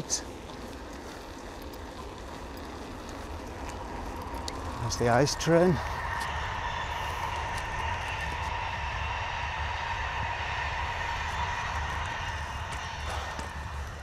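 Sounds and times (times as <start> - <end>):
distant high-speed train rushing: 0.0 - 14.0
faint train whine: 0.0 - 14.0
wind rumble on microphone: 0.0 - 14.0.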